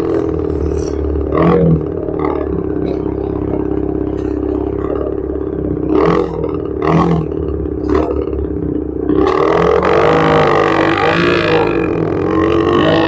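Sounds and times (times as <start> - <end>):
engine throttle blips: 0.0 - 13.0
motorcycle engine running: 0.0 - 13.0.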